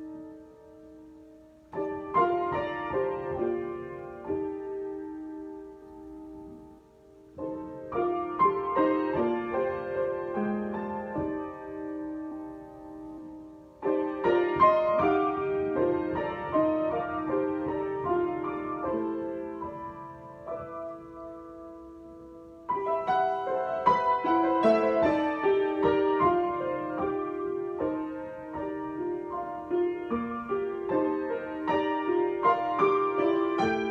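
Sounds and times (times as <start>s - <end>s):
solo piano improvisation: 0.0s - 33.9s.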